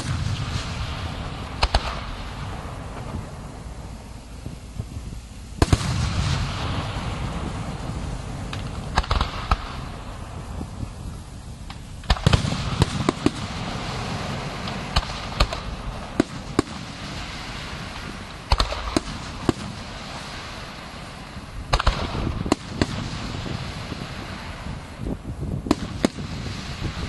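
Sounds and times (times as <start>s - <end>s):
crackle and hiss of sparklers: 0.0s - 27.0s
firework shells bursting: 0.0s - 27.0s.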